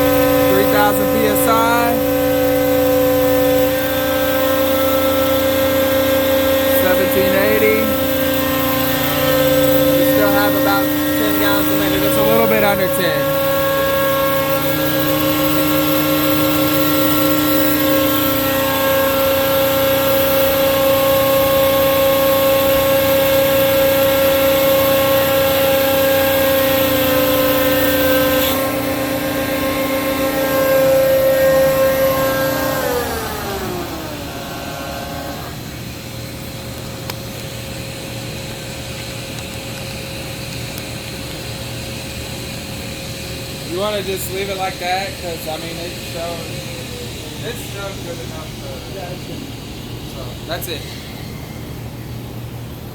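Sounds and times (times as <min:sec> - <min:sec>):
hydraulic pump whine: 0:00.0 - 0:52.9.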